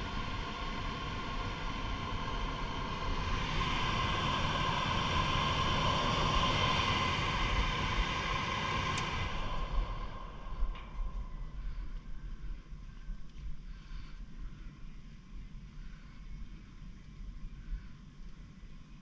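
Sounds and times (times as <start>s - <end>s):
faint held whine: 0.0s - 19.0s
hvac whooshing drone: 0.0s - 19.0s.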